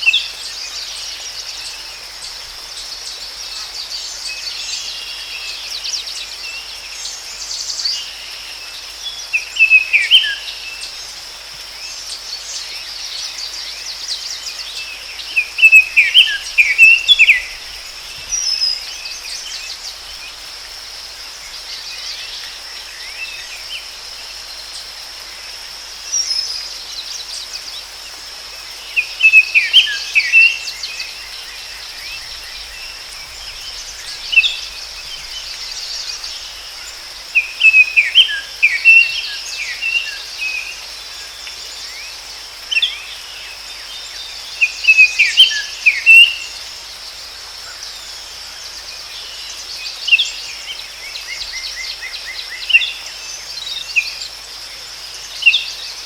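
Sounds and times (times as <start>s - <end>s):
high insect drone: 0.0s - 56.0s
songbirds chirping: 0.0s - 56.0s.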